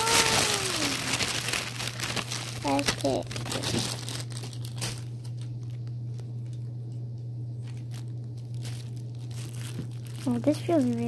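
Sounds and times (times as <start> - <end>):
plastic bag crackling: 0.0 - 6.7, 7.6 - 11.0
steady low hum: 0.0 - 11.0.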